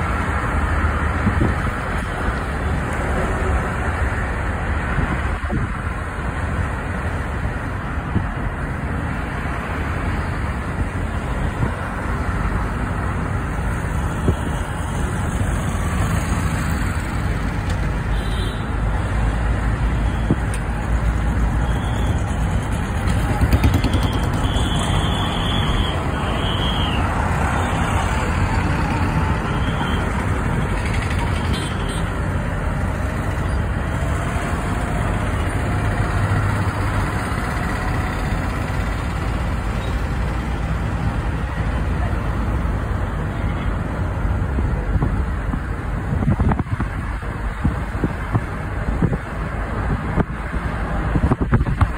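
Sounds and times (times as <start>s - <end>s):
bus passing: 0.0s - 51.9s
traffic passing: 0.0s - 51.9s
vehicle road and wind noise: 0.0s - 51.9s.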